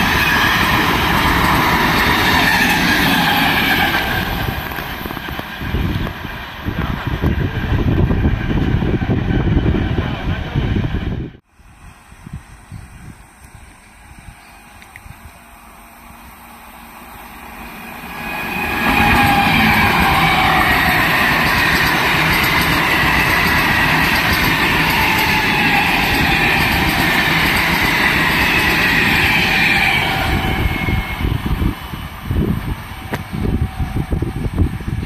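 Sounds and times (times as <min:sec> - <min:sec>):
high train whine: 0:00.0 - 0:35.0
train wheels rumbling on rail: 0:00.0 - 0:35.0.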